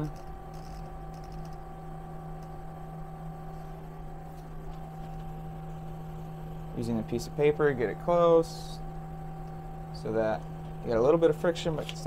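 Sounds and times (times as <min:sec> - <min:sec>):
machine electrical hum: 0:00.0 - 0:12.0.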